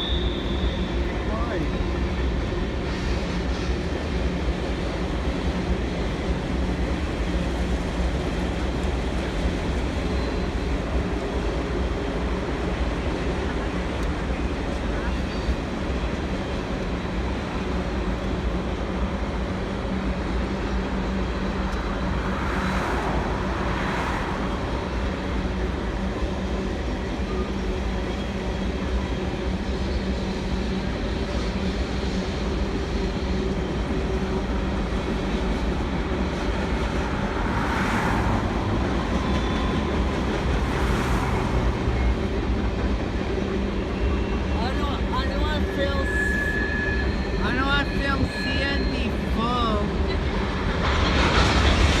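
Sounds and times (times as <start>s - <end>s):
train rumbling by: 0.0s - 52.0s.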